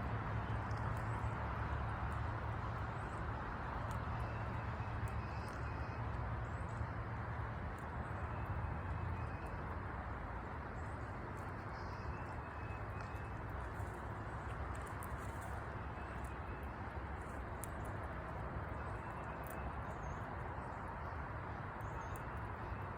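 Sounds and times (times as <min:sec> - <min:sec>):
traffic rumble and hiss: 0:00.0 - 0:22.9.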